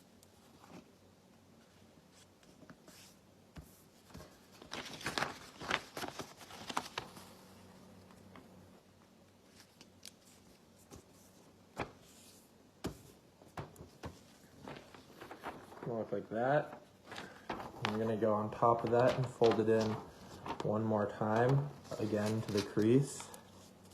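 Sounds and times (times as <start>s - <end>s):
paper rustling and folding: 1.6s - 8.5s, 9.3s - 23.9s.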